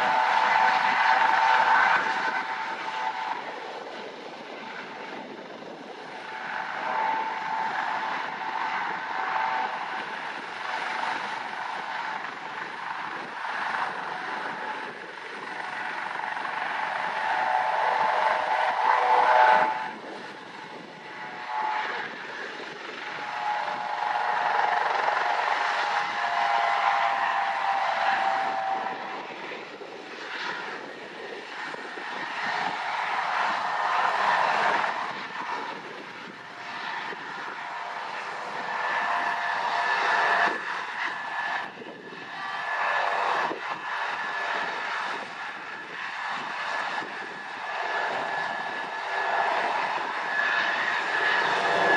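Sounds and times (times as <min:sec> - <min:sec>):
helicopter turbines whining: 0:00.0 - 0:51.9.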